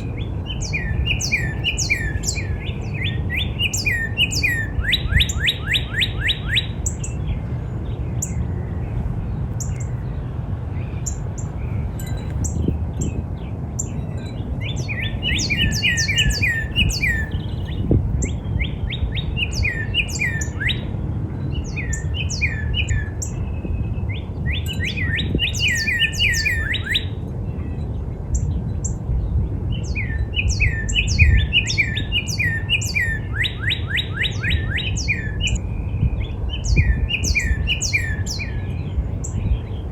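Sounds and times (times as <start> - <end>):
bird singing whistled notes: 0.0 - 10.2, 10.8 - 39.9.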